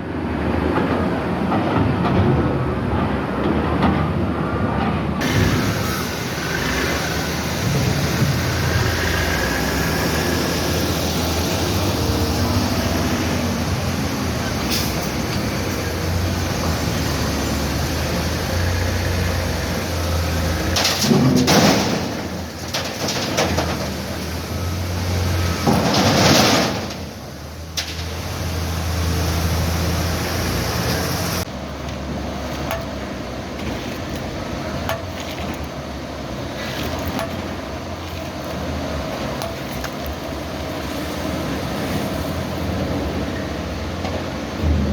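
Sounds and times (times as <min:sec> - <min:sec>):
excavator diesel engine running: 0:04.4 - 0:44.9.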